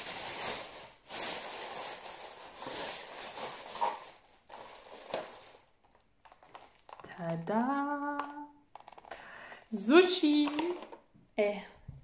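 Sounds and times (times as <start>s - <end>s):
plastic bag rustling: 0.0s - 11.1s.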